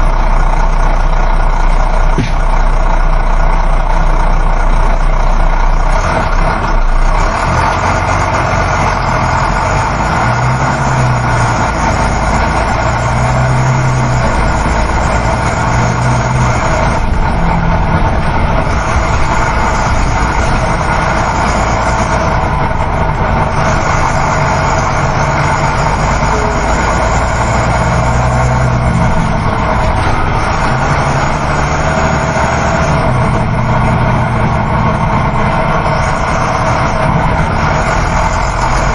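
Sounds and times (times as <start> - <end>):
bus engine drone: 0.0 - 38.9
road rumble: 0.0 - 38.9.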